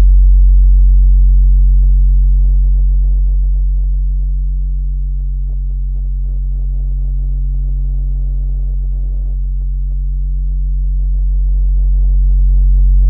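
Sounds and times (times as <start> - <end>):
low hum of held tones: 0.0 - 13.0.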